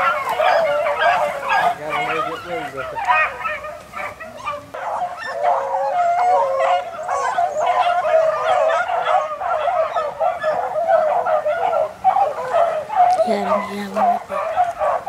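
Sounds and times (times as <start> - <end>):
pack of dogs baying: 0.0 - 15.0.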